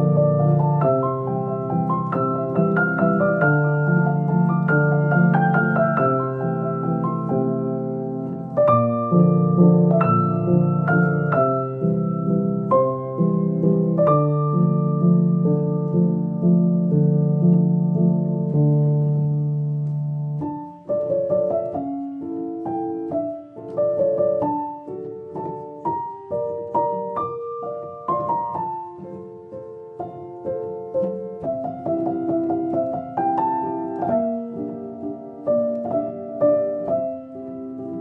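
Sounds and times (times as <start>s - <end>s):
piano music: 0.0s - 38.0s.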